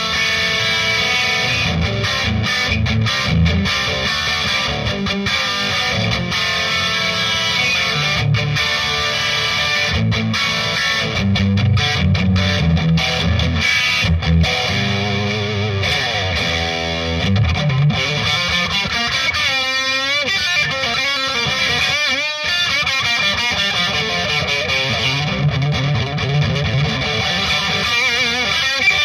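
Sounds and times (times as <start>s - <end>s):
overdriven electric guitar: 0.0s - 29.0s.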